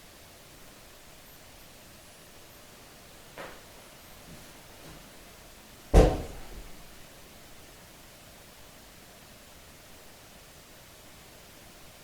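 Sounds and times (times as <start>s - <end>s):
faint room tone hiss: 0.0s - 12.0s.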